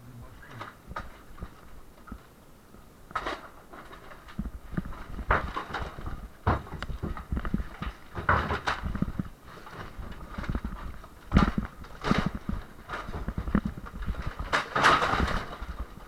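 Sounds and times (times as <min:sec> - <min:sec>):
debris crumbling and clattering: 0:03.1 - 0:16.0.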